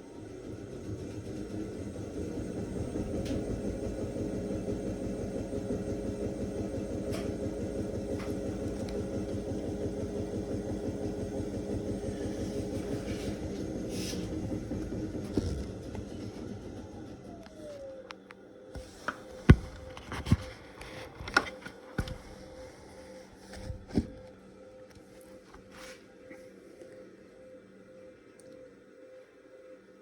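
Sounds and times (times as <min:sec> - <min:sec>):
washing machine spinning: 0:00.0 - 0:26.3.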